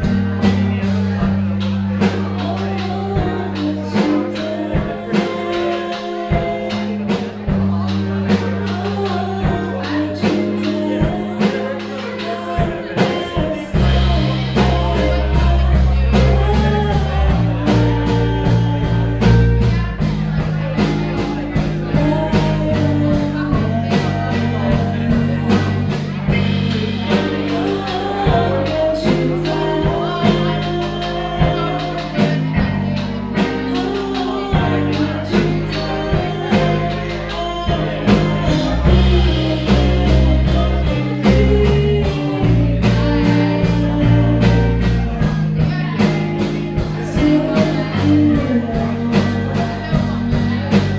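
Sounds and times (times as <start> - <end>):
bass guitar: 0.0 - 50.9
drum kit beat: 0.0 - 50.9
electric guitars: 0.0 - 50.9
woman singing lead: 0.0 - 50.9.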